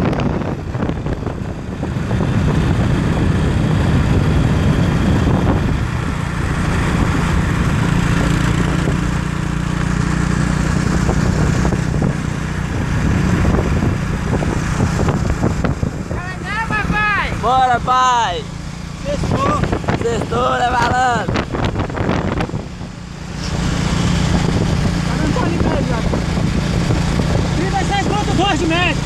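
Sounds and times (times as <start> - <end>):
small motorcycle engine running: 0.0 - 29.0.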